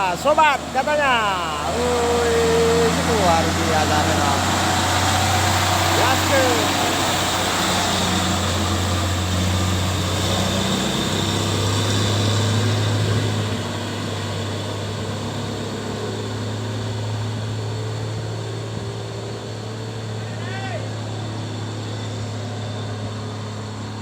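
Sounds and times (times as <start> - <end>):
diesel truck engine drone: 0.0 - 24.0.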